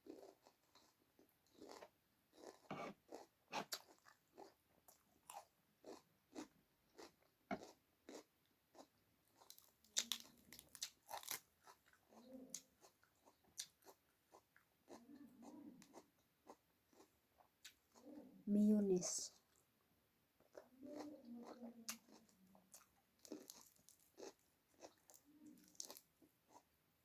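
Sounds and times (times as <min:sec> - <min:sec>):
chewing and crunching food: 0:00.0 - 0:18.4, 0:19.3 - 0:26.8.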